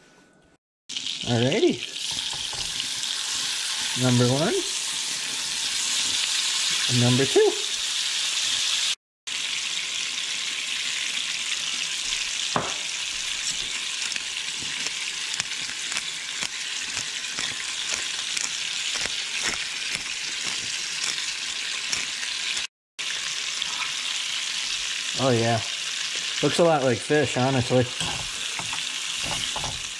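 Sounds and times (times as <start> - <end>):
meat sizzling in hot oil: 0.9 - 29.9.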